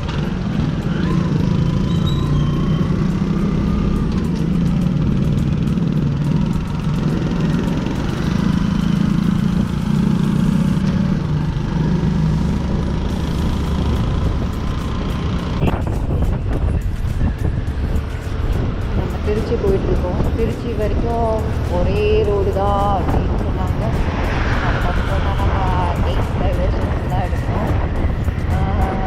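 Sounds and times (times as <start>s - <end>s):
engine and road rumble: 0.0s - 29.0s
passing traffic: 0.0s - 29.0s.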